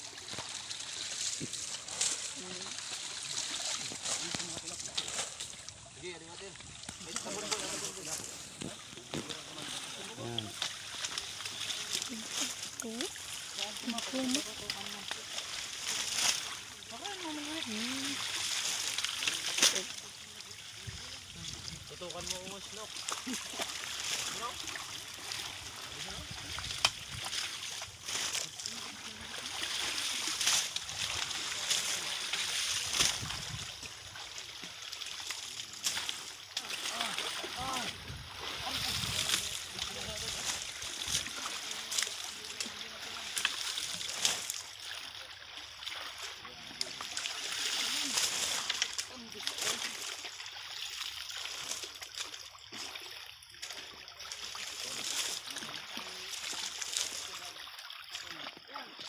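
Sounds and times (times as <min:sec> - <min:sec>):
people wading through water: 0:00.0 - 0:59.0
sharp splashes: 0:00.0 - 0:59.0.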